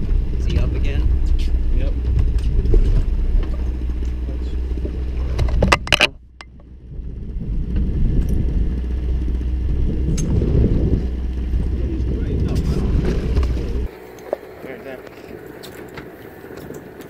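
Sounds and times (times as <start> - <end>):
outboard engines idling: 0.0 - 17.0.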